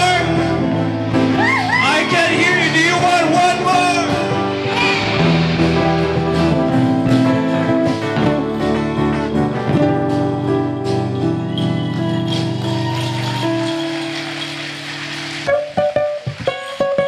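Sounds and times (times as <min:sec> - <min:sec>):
electric bass: 0:00.0 - 0:13.9
drums: 0:00.0 - 0:17.0
keyboard chords: 0:00.0 - 0:17.0.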